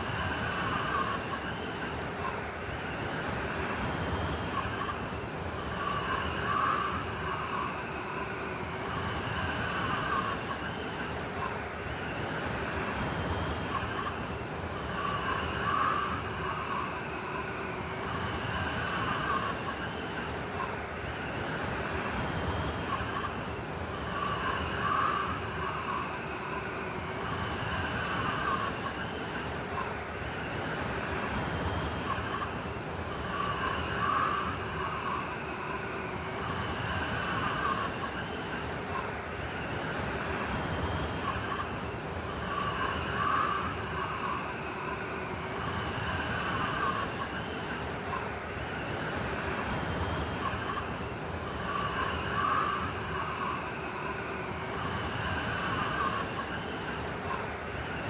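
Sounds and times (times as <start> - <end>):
blizzard wind whistling: 0.0 - 58.0.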